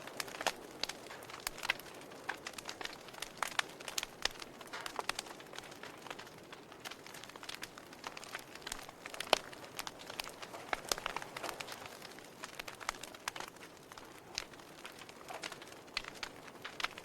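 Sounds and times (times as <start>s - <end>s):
sharp pops and snaps: 0.0s - 17.0s
wood fire crackling: 0.0s - 17.0s.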